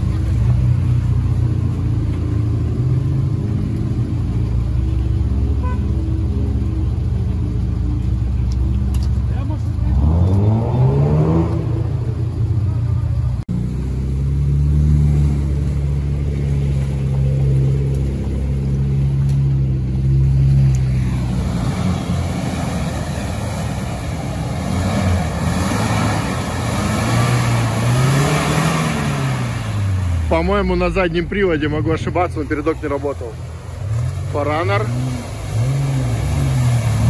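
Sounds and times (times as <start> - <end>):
off-road engines revving: 0.0 - 37.0.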